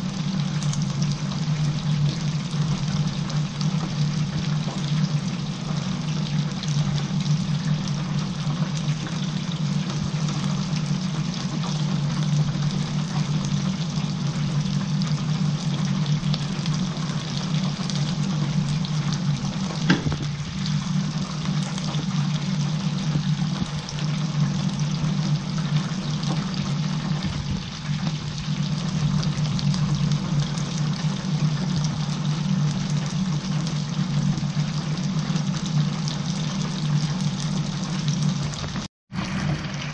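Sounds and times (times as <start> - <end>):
constant low hum: 0.0 - 39.9
oil bubbling and sizzling: 0.0 - 39.9.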